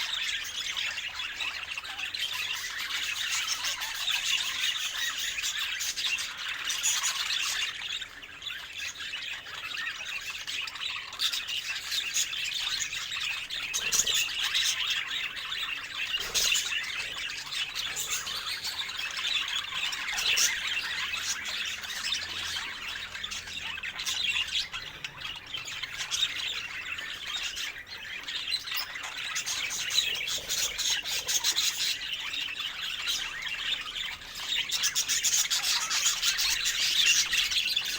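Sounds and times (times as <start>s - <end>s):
bird squawks: 0.0s - 37.9s
budgerigars chattering and warbling: 0.0s - 37.9s.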